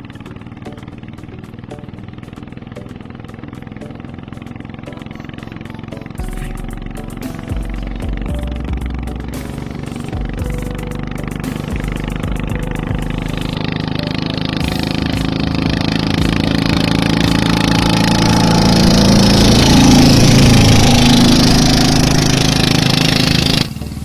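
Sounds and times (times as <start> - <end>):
boat diesel engine running: 0.0 - 24.0.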